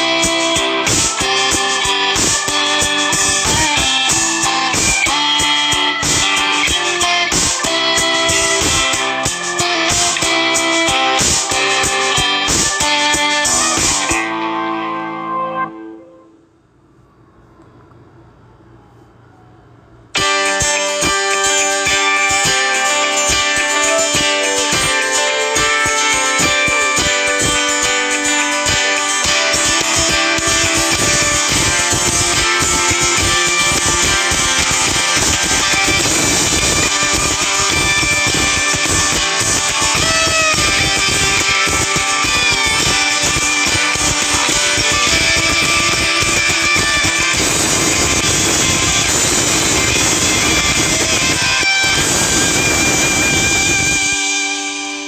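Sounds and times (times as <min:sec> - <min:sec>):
guitar-led ringtone music: 0:00.0 - 0:16.4, 0:20.2 - 0:55.0.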